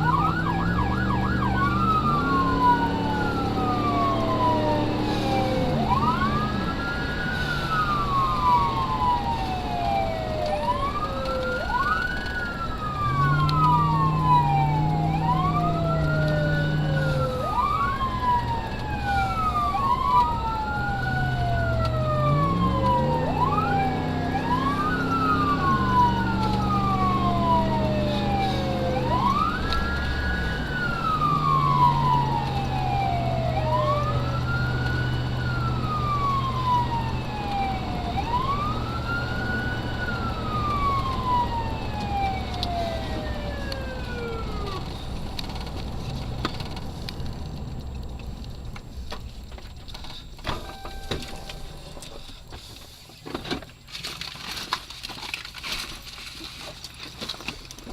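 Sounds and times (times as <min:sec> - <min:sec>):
second siren wail: 0:00.0 - 0:47.0, 0:50.5 - 0:52.4
emergency siren wailing: 0:00.0 - 0:49.3, 0:50.0 - 0:52.9
vehicle engine accelerating: 0:00.0 - 0:49.6.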